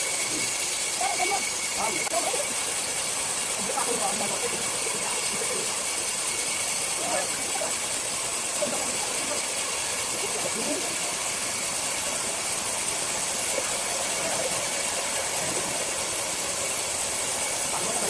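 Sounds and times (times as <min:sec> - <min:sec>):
circular saw running: 0:00.0 - 0:18.0.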